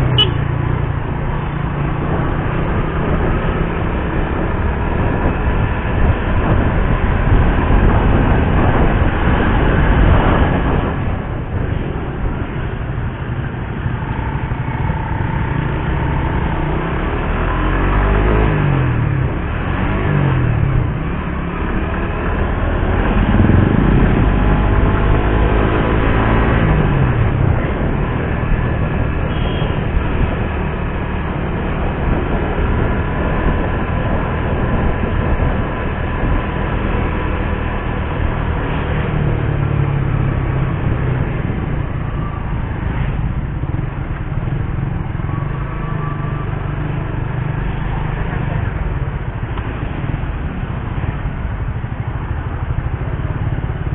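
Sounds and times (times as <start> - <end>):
motorcycle engine: 0.0 - 53.9
road noise: 0.0 - 53.9
wind noise: 0.0 - 53.9.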